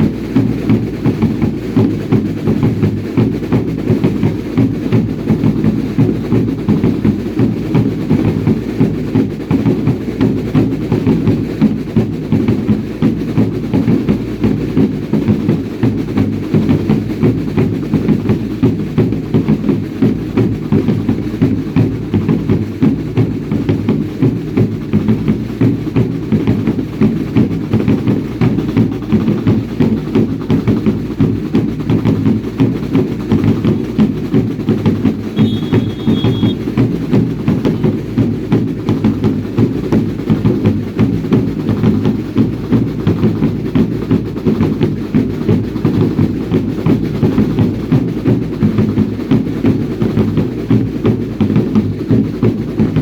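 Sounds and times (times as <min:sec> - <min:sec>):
drums beating fast rhythm: 0:00.0 - 0:53.0.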